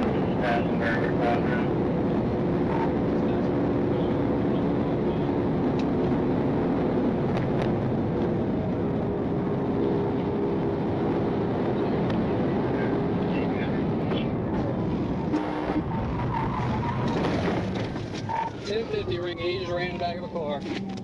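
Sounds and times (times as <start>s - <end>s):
road and wind rumble: 0.0s - 21.0s
vehicle engine running: 0.0s - 21.0s.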